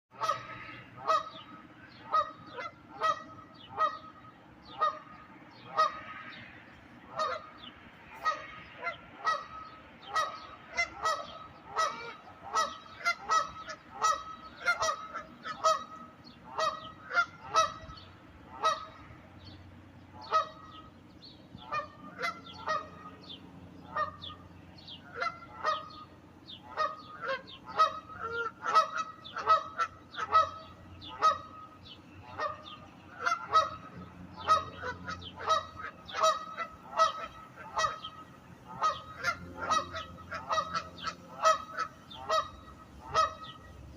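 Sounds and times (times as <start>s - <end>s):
water birds honking: 0.1s - 43.9s.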